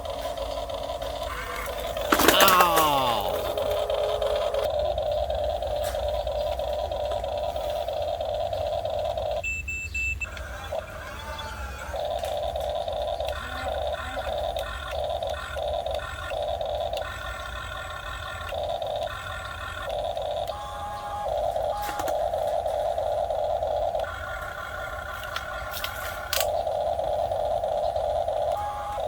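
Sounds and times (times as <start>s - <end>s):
small electric motors whining: 0.0s - 9.5s, 10.2s - 29.0s.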